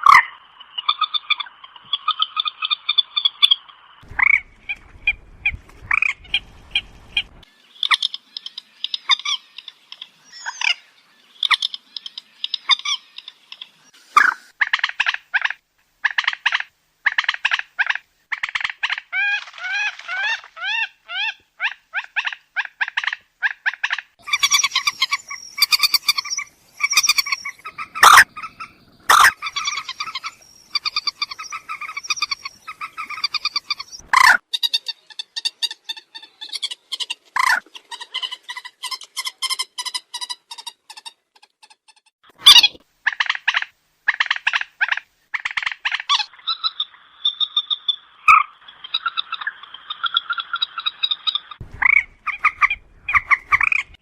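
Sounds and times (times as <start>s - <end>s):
moorhen clucking calls: 0.0s - 41.8s, 42.4s - 54.0s.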